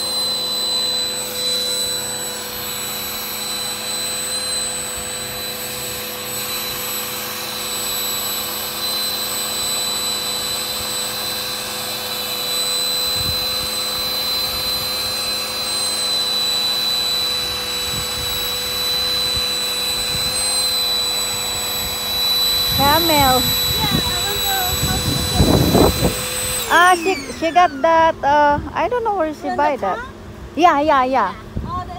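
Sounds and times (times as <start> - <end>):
electric air pump whining: 0.0 - 31.9.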